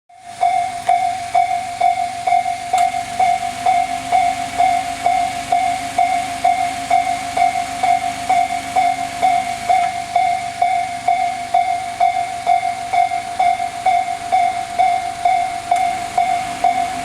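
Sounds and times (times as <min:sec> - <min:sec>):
level crossing bell dinging: 0:00.2 - 0:17.0.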